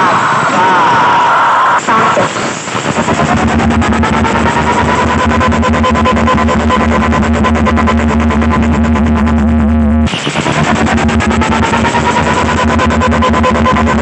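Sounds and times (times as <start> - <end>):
electronic dance music: 0.0 - 14.0.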